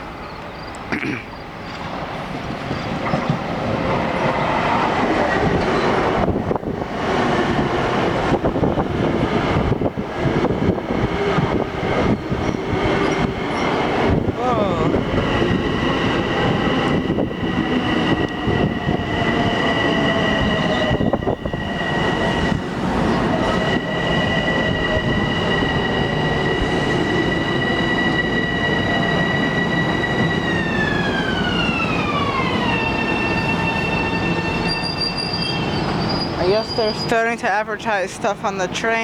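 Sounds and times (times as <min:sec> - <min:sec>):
electric train high whine: 0:00.0 - 0:39.0
train rail noise: 0:00.0 - 0:39.0.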